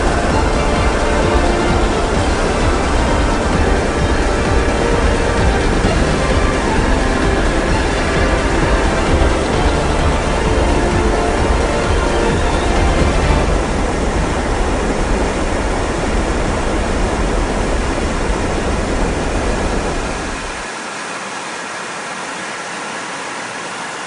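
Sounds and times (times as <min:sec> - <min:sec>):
jet aircraft roar: 0:00.0 - 0:24.0.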